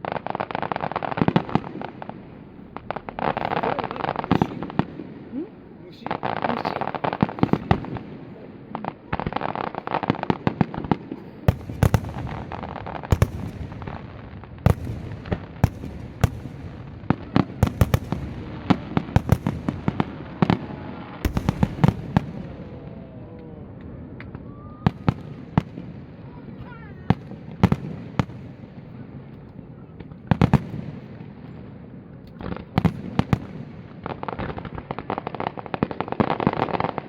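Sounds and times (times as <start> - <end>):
background hubbub: 0.0 - 37.0
fireworks bursting: 0.0 - 37.0.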